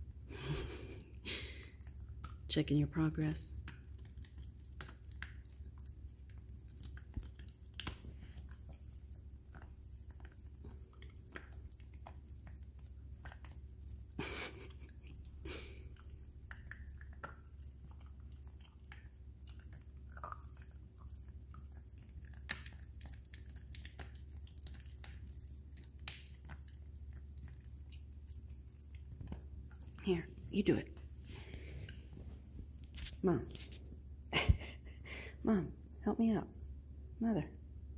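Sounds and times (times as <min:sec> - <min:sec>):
dog chewing: 0:03.4 - 0:34.0.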